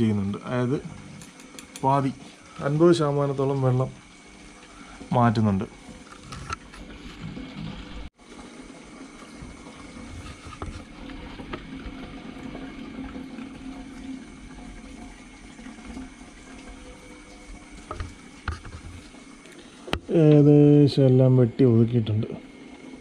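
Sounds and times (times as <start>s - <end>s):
aquarium water trickling: 0.0s - 23.0s.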